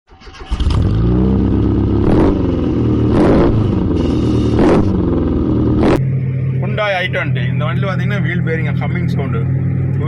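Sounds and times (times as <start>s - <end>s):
car engine and road noise: 0.1s - 10.0s.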